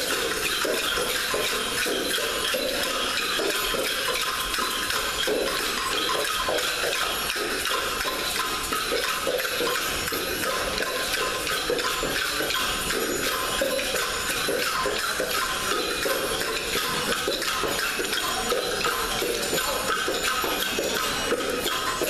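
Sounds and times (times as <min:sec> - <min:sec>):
crowd moving about a hall: 0:00.0 - 0:22.0
small clicks and clinks: 0:00.0 - 0:22.0.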